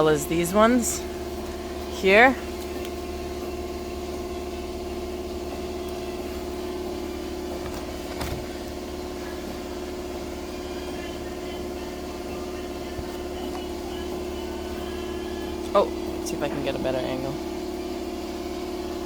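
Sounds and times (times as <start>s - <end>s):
droning motor hum: 0.0s - 19.0s.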